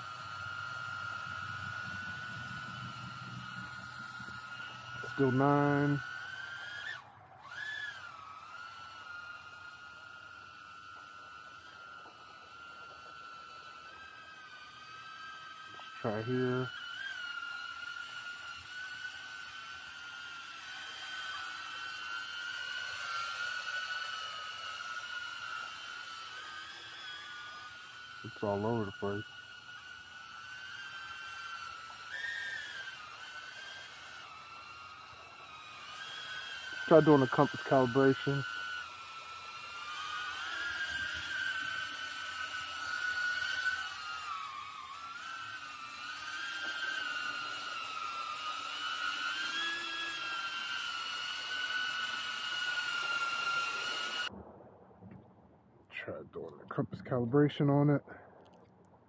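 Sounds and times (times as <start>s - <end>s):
drone motors whining: 0.0s - 54.3s.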